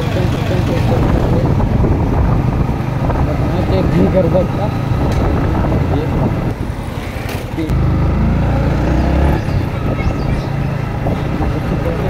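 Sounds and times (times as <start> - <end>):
motorcycle engine running: 0.0 - 6.5, 7.6 - 12.0
wind and road noise: 0.0 - 12.0.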